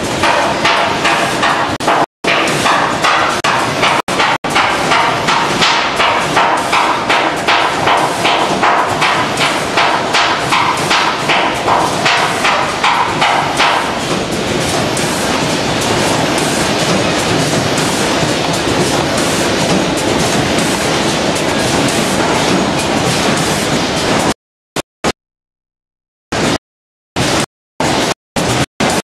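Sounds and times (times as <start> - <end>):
bagging machines clacking: 0.0 - 24.4, 27.2 - 29.0
steady machine noise: 0.0 - 24.4, 26.4 - 26.6, 27.2 - 29.0.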